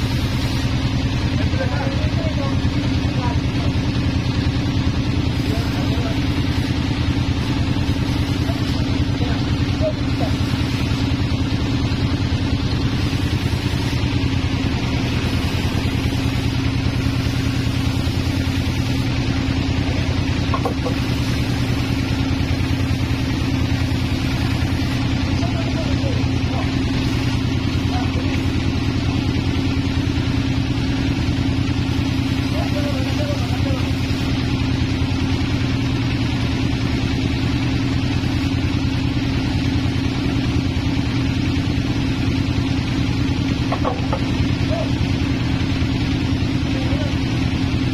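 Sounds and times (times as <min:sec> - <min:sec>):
sawmill machinery low throb: 0:00.0 - 0:47.9.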